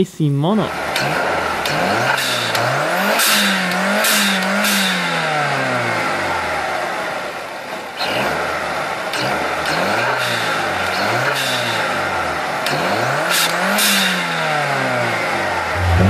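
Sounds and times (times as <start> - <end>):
car engine revving: 0.7 - 16.0.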